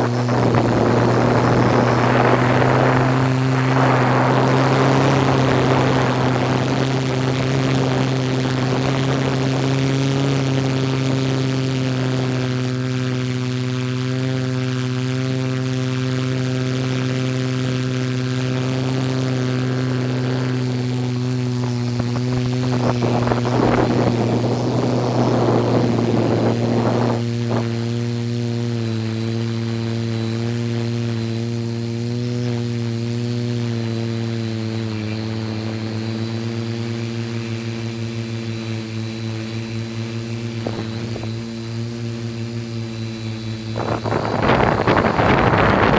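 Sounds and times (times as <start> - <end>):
drone motors humming: 0.0 - 45.9.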